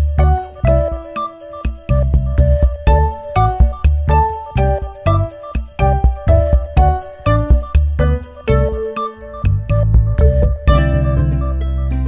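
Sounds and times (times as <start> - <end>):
instrumental tune with bass line: 0.0 - 12.0.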